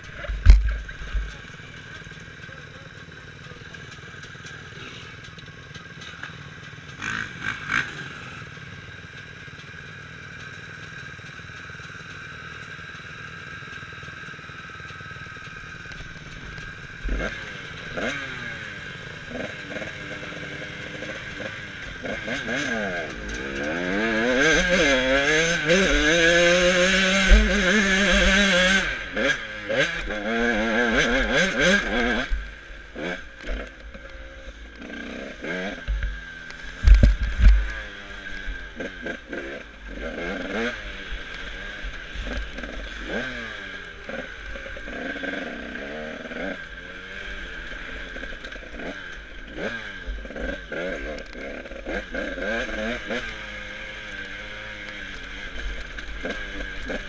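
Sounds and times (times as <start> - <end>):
dirt bike engine revving: 0.0 - 10.7, 13.1 - 57.0.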